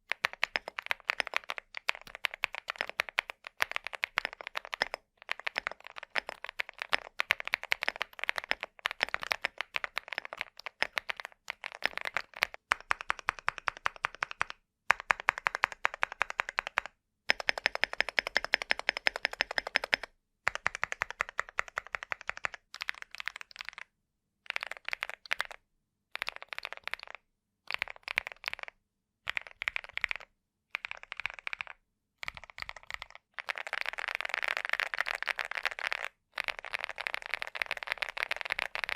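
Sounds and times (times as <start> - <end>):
mechanical keyboard typing: 0.0 - 23.8, 24.5 - 25.6, 26.2 - 28.7, 29.3 - 38.9.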